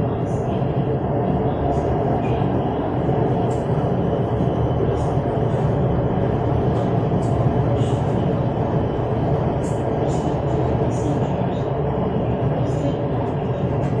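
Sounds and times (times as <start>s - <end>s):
metro train running rumble: 0.0s - 14.0s.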